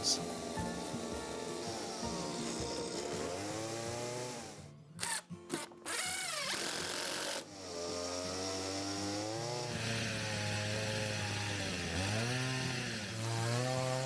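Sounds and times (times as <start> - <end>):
harsh wood cutting noise: 0.0 - 14.0
power tool motor whine: 0.2 - 14.0.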